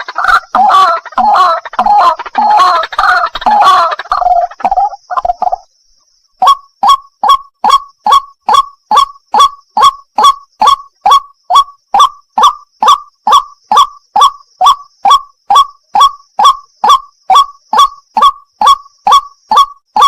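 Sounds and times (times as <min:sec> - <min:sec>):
bird calling kwak notes: 0:00.0 - 0:20.0.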